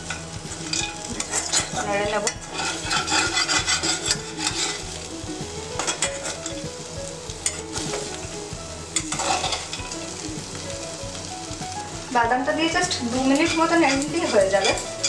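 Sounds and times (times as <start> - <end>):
hot oil sizzling: 0.0 - 15.0
spatula scraping frying pan: 0.0 - 15.0.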